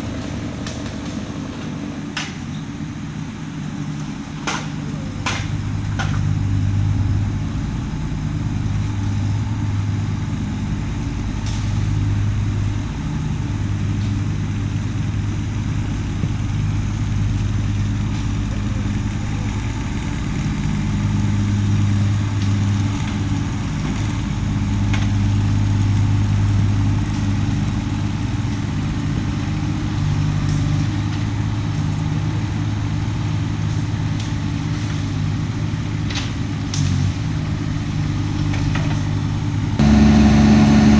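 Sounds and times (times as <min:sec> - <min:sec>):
large engine idling: 0:00.0 - 0:40.9.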